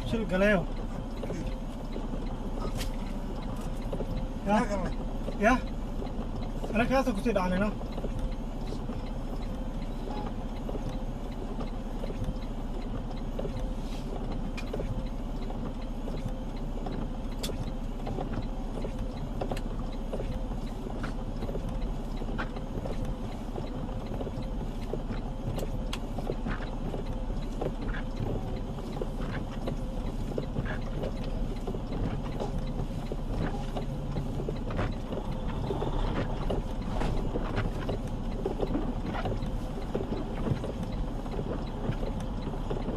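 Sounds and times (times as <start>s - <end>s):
truck engine and road drone: 0.0s - 42.9s.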